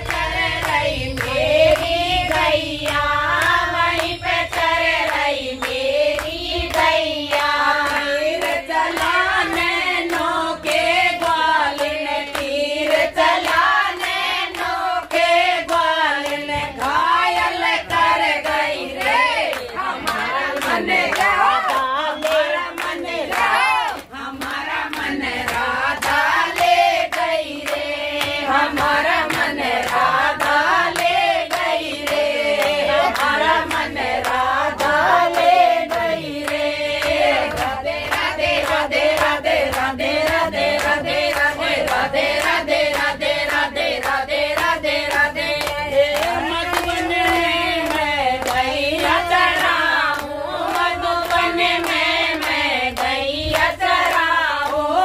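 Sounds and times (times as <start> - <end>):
group singing devotional song: 0.0 - 55.0
rhythmic hand clapping: 0.0 - 55.0.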